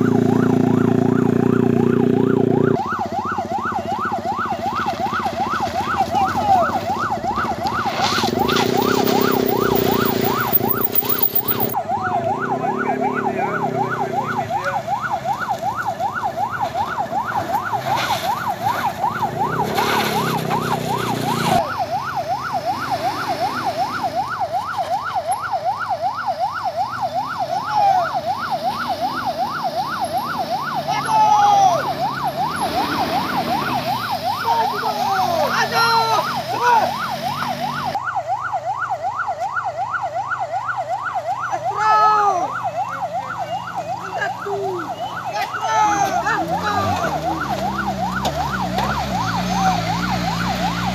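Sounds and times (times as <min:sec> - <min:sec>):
electronic siren yelping: 0:00.0 - 0:50.9
vehicle engines running: 0:00.0 - 0:50.9.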